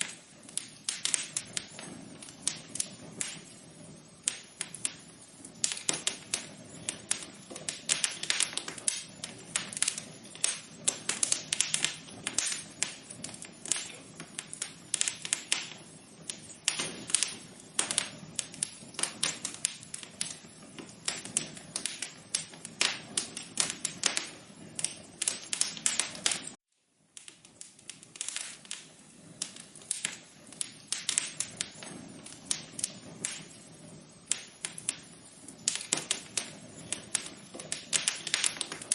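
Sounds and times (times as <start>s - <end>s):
low steady hiss: 0.0s - 38.9s
wood fire crackling: 0.0s - 38.9s.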